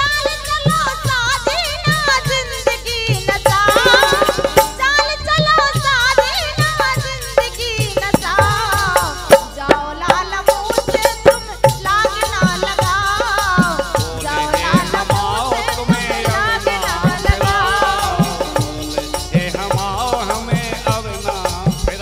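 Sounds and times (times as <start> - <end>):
woman singing with vibrato: 0.0 - 19.6
dholak drum beating: 0.0 - 22.0
harmonium: 0.0 - 22.0
rattling hand percussion: 0.0 - 22.0.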